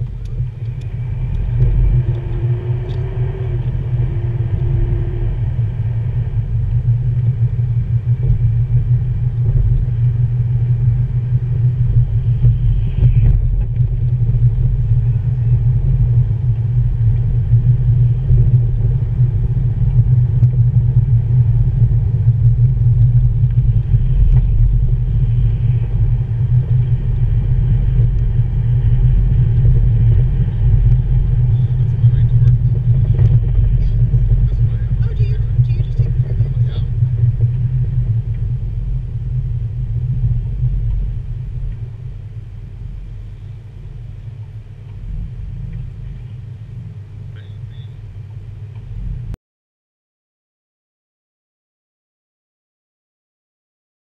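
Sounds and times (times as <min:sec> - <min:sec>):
car interior road rumble: 0:00.0 - 0:49.4.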